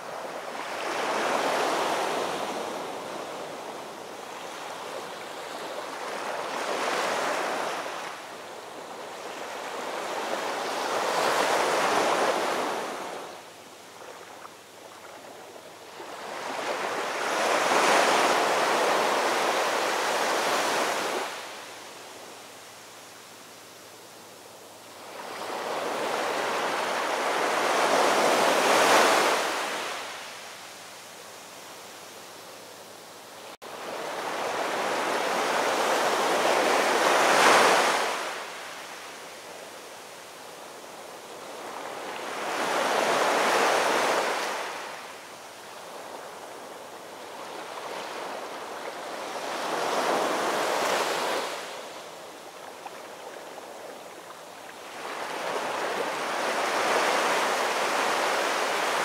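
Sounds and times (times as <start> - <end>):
ocean surf washing in and out: 0.0 - 59.0.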